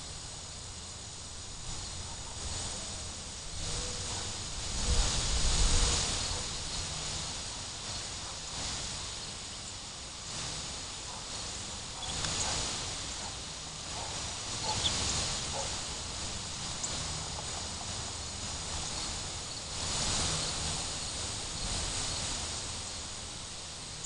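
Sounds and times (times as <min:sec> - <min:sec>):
hissing rustle: 0:00.0 - 0:24.0.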